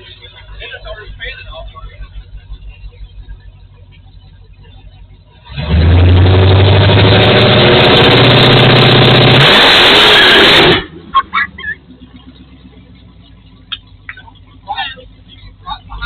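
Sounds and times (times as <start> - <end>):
drag car engine running loud: 0.0 - 16.0.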